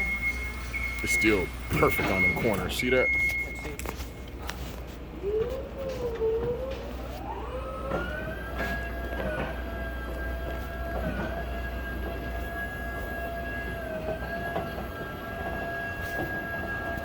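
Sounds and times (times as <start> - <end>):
siren winding up: 0.0 - 4.4, 5.2 - 17.0.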